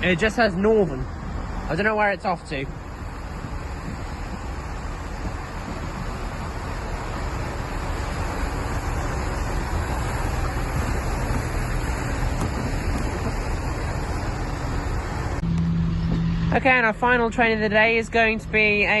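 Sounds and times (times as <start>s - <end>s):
train engine rumbling: 0.0s - 19.0s
wind noise on microphone: 1.1s - 17.2s.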